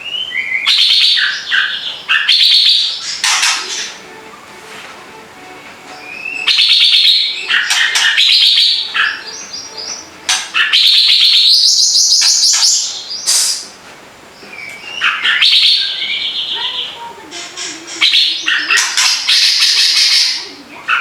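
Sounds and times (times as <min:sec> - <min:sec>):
songbird chattering song: 0:00.0 - 0:04.5, 0:05.9 - 0:21.0.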